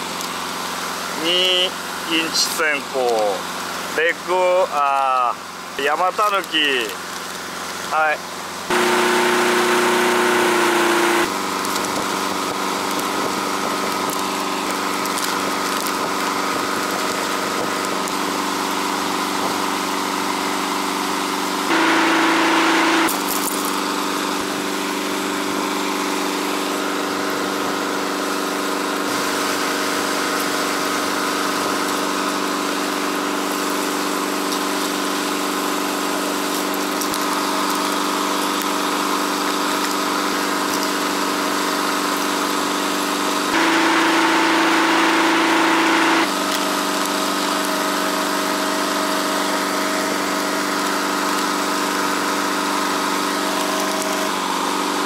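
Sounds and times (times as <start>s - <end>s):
outboard motor running: 0.0s - 4.6s, 6.9s - 55.0s.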